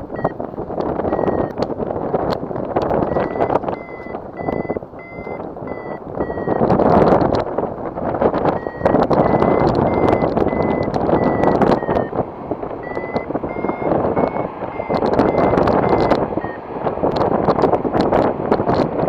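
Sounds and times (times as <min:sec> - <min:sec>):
variometer beeping: 0:00.0 - 0:19.0
wind on microphone: 0:00.0 - 0:19.0.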